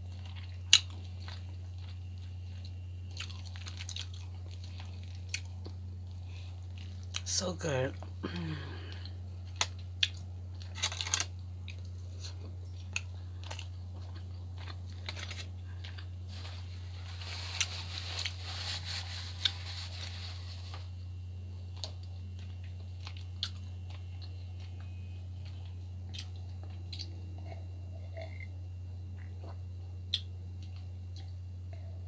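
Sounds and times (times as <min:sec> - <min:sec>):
close chewing and mouth sounds: 0:00.0 - 0:07.3, 0:08.9 - 0:20.6, 0:21.4 - 0:32.0
crackly noise: 0:00.0 - 0:07.3, 0:08.0 - 0:32.0
steady low hum: 0:00.0 - 0:32.0.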